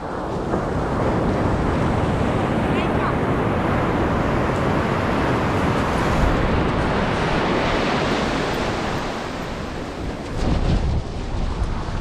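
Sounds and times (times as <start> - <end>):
sea surf washing on beach: 0.0 - 12.0
wind buffeting microphone: 0.0 - 12.0.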